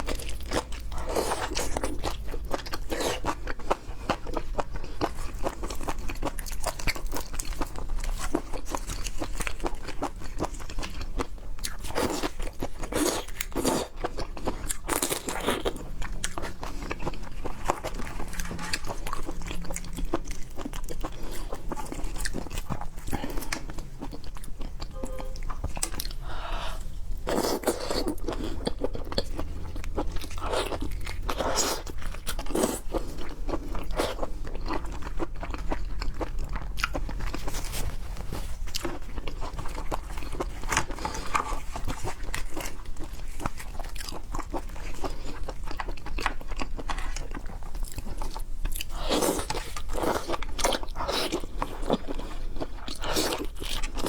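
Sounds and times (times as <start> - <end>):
faint low hum: 0.0 - 54.0
person chewing food: 0.0 - 54.0.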